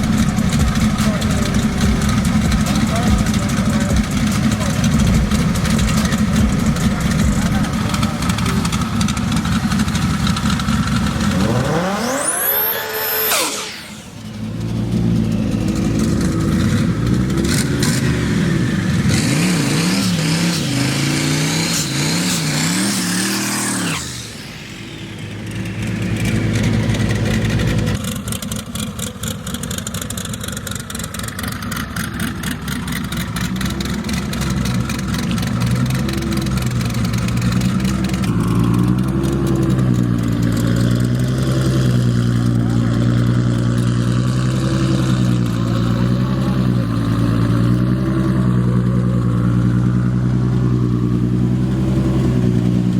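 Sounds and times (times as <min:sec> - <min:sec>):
race car engines revving: 0:00.0 - 0:52.9.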